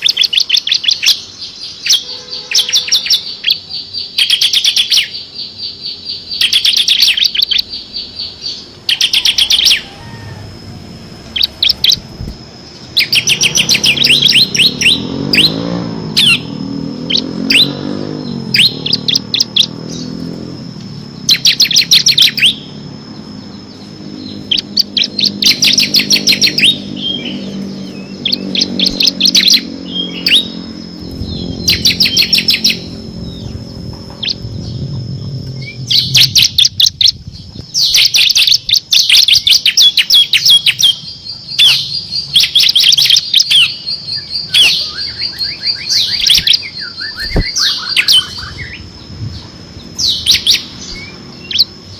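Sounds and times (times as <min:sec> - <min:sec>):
bird rapid trill: 0:00.0 - 0:51.9.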